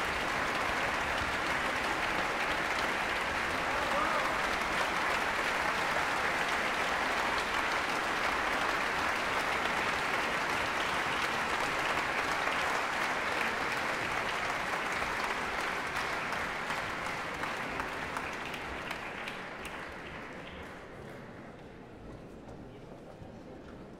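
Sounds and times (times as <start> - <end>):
separate hand claps: 0.0 - 20.8
audience applauding: 0.0 - 21.5.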